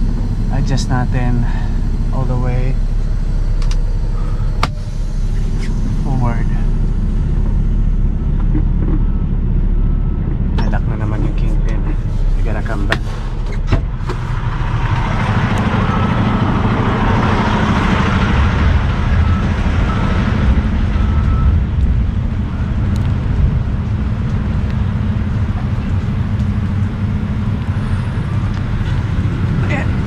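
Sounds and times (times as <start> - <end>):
diesel truck engine droning: 0.0 - 30.0.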